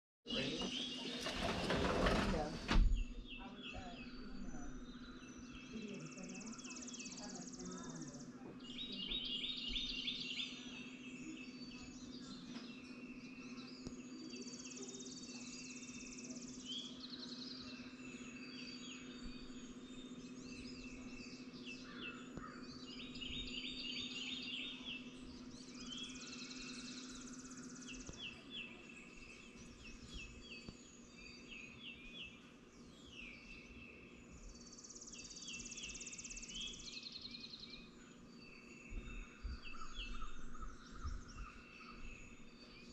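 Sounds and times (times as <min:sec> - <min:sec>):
songbirds chirping and trilling: 0:00.3 - 0:42.9.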